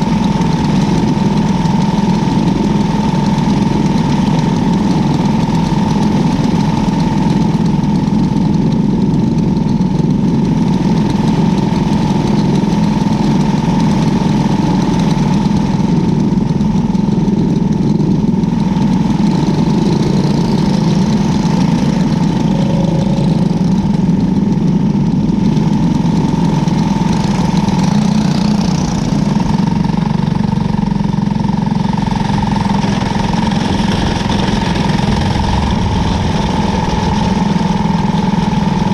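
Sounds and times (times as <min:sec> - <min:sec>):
race car engine droning: 0:00.0 - 0:38.9.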